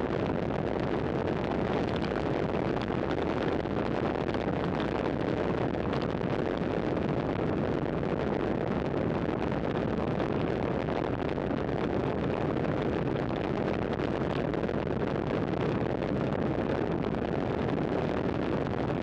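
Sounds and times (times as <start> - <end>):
wind rush on microphone: 0.0 - 19.0.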